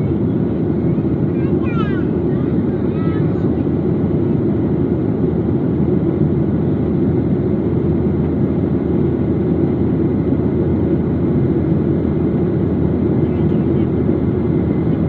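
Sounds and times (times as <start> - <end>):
jet airliner cabin drone: 0.0 - 15.0.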